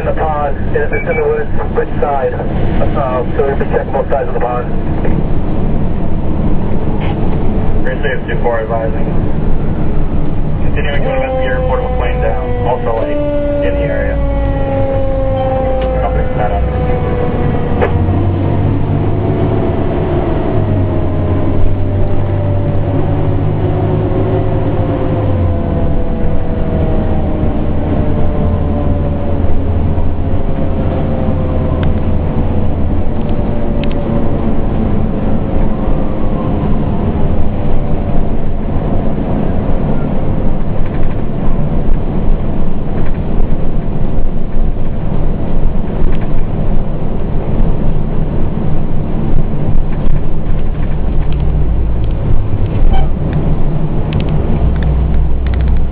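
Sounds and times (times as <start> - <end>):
diesel engine low drone: 0.0 - 55.9
road noise: 0.0 - 55.9.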